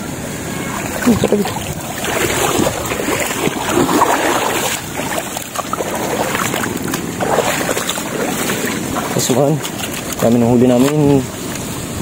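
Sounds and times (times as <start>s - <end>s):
water sloshing and splashing: 0.4s - 12.0s.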